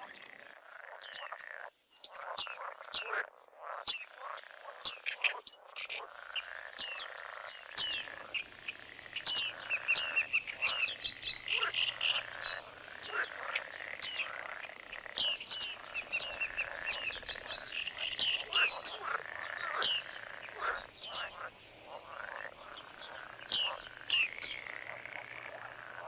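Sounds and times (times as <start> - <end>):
birds warbling: 4.9 - 26.0.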